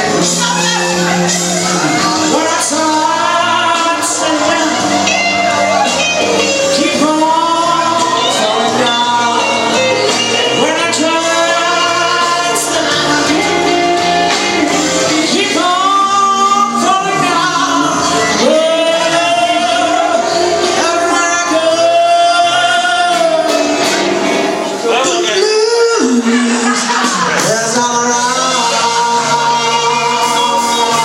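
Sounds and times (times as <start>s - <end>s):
instrumental backing music: 0.0s - 31.0s
person singing long notes: 0.0s - 31.0s.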